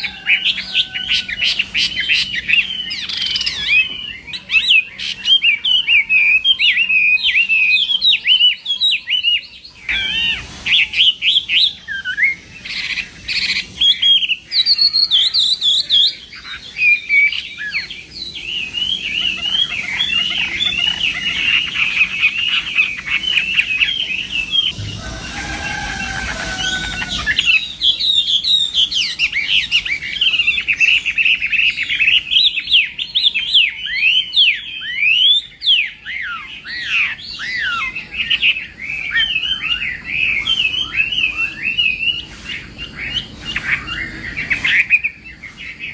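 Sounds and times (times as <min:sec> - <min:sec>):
bird singing whistled phrases: 0:00.0 - 0:45.9.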